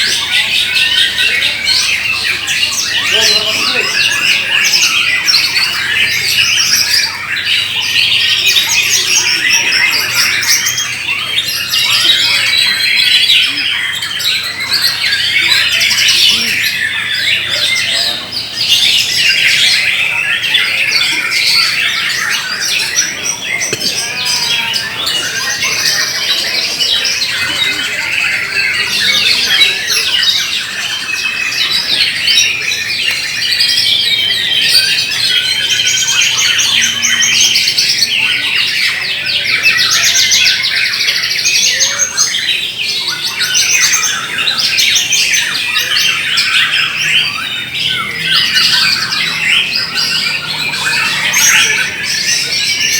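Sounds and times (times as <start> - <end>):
birds whistling and chattering: 0.0 - 52.9.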